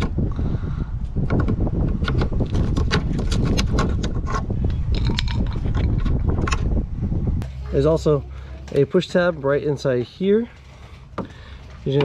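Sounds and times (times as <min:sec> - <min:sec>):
low rumble: 0:00.0 - 0:11.9.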